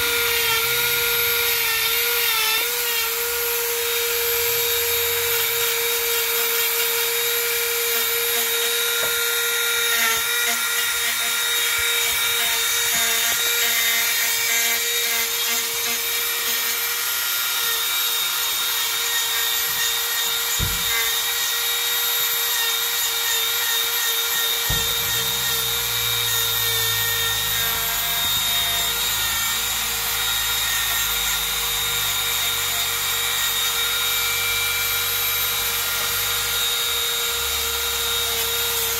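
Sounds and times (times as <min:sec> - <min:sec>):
rotary tool grinding wood: 0:00.0 - 0:38.9.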